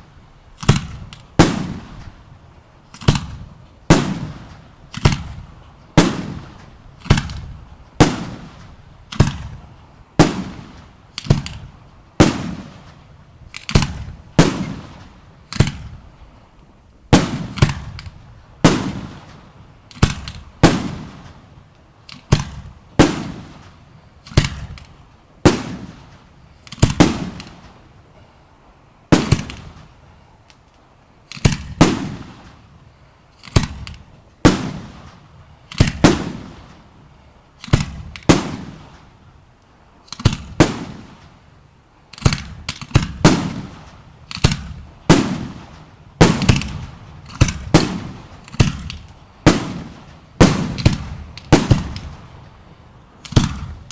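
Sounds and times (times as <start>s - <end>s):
fireworks bursting with echo: 0.0s - 16.2s, 17.1s - 28.0s, 29.1s - 30.2s, 31.3s - 37.0s, 37.6s - 39.2s, 40.0s - 41.5s, 42.1s - 53.9s.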